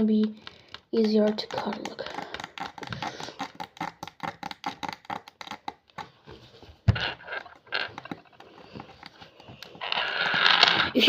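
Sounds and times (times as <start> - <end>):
needle clicking on hard candy: 0.0 - 11.0.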